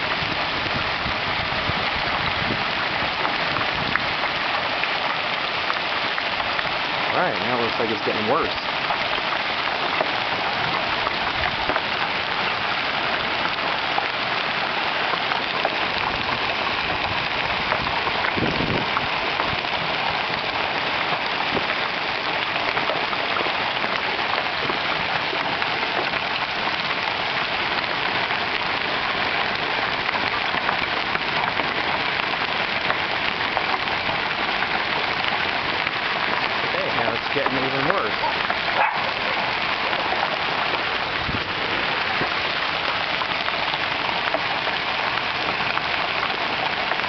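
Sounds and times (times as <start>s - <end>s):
hail pelting the ground: 0.0s - 47.0s.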